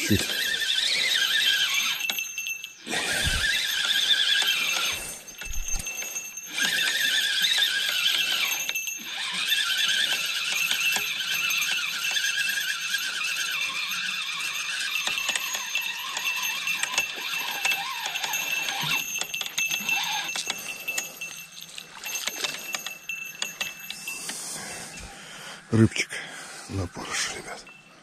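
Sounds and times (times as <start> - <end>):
fishing reel cranking: 0.0 - 25.1.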